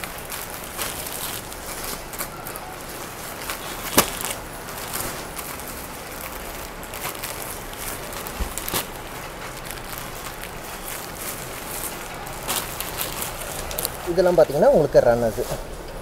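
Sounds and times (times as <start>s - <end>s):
sharp plastic crack: 0.0s - 14.0s
plastic packaging crinkling: 0.0s - 15.6s.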